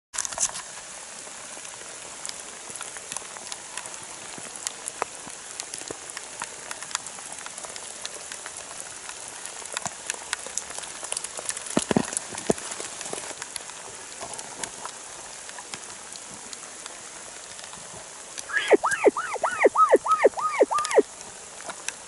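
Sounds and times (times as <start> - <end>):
rain falling: 0.2 - 22.0.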